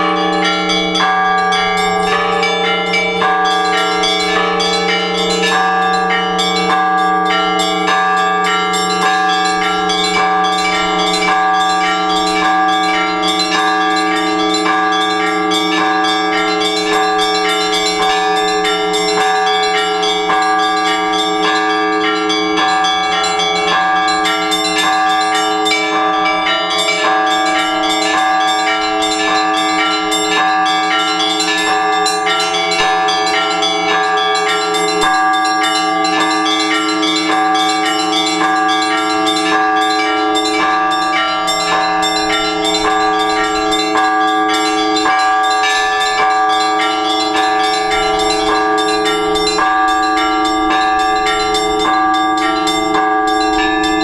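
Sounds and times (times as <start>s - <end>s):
church bells ringing: 0.0s - 54.0s
low bell hum: 0.0s - 54.0s.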